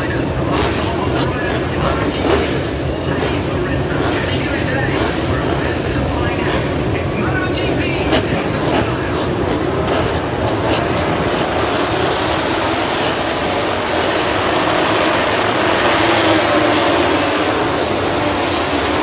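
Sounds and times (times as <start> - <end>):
racing motorcycle engines droning: 0.0 - 19.0.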